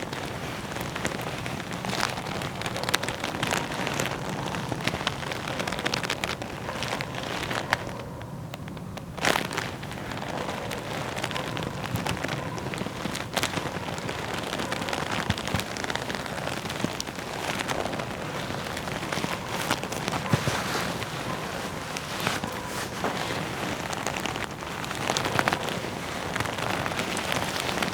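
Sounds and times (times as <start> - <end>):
leather rustling and crackling: 0.0 - 27.9.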